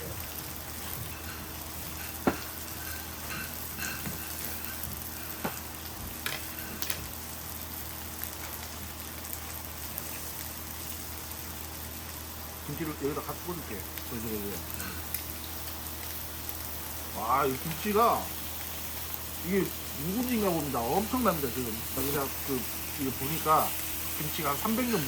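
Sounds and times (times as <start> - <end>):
meat sizzling on griddle: 0.0 - 25.0.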